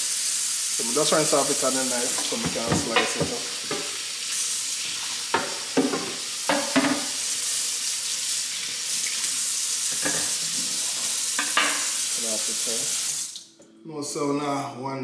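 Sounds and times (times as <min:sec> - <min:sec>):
kitchen tap running into sink: 0:00.0 - 0:13.4.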